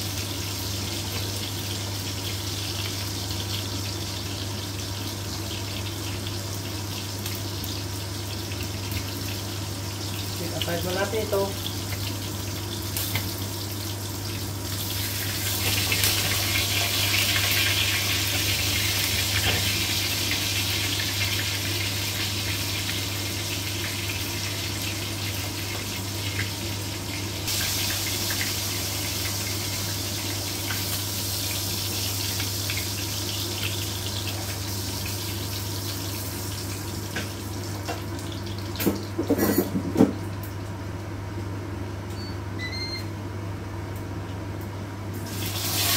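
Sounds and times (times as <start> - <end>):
meat sizzling in oil: 0.0 - 39.2, 45.2 - 45.9.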